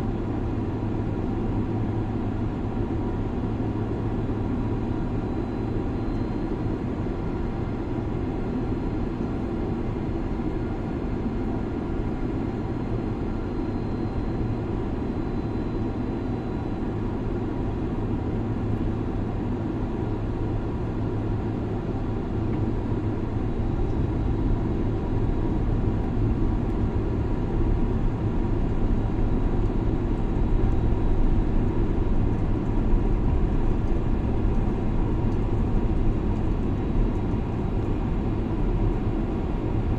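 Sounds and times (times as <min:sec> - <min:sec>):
faint steady hum: 0:00.0 - 0:39.9
jet airliner cabin drone: 0:00.0 - 0:39.9.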